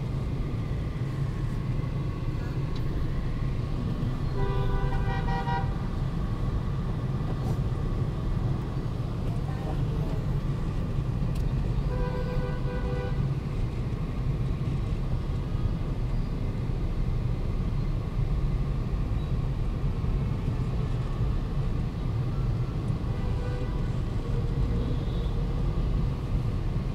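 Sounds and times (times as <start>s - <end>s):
traffic engines rumbling: 0.0s - 26.9s.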